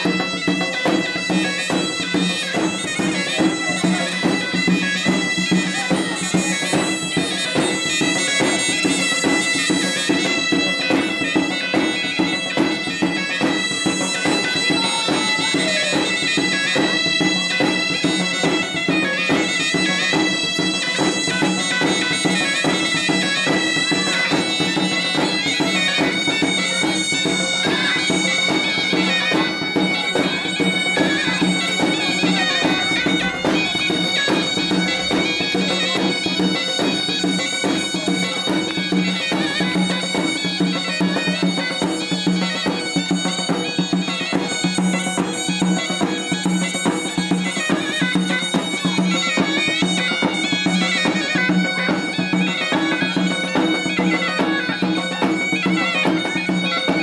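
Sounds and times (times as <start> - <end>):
shrill reed wind instrument: 0.0 - 57.0.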